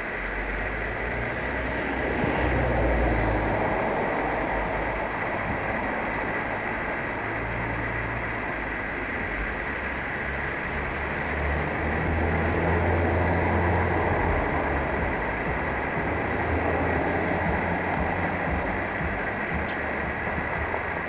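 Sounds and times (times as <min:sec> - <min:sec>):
constant hiss: 0:00.0 - 0:21.0
low engine rumble: 0:00.0 - 0:21.0.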